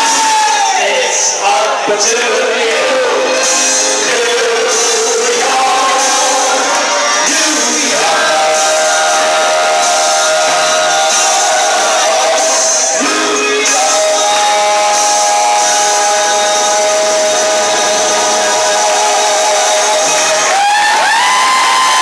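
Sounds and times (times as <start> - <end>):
amplified backing music: 0.0 - 22.0
man singing into microphone: 0.0 - 22.0.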